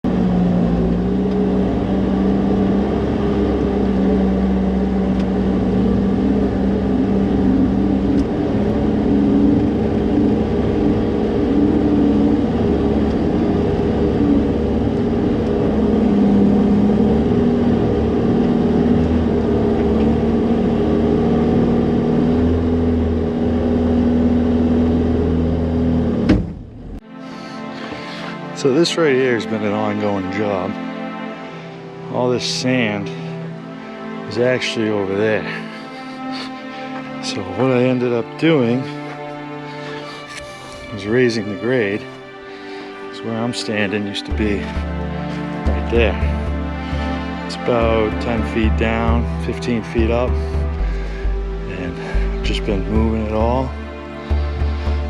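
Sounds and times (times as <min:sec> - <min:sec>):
loader engine running: 0:00.0 - 0:27.0, 0:27.7 - 0:55.0.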